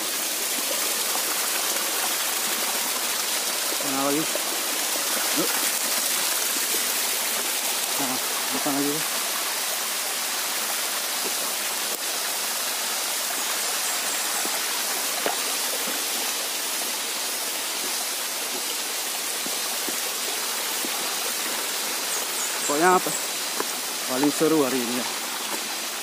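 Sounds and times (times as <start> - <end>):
stream trickling over rocks: 0.0 - 26.0.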